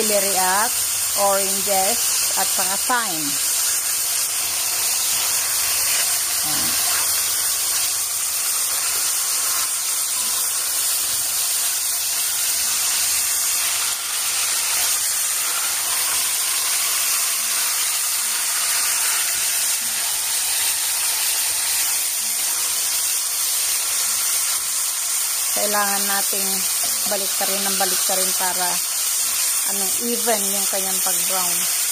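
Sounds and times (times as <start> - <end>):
chickens sizzling in hot fat: 0.0 - 31.9.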